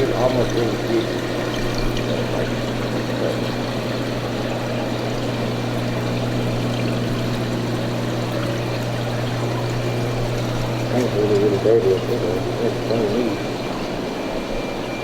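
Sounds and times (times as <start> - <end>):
low pump hum: 0.0 - 15.0
water pouring and trickling: 0.0 - 15.0.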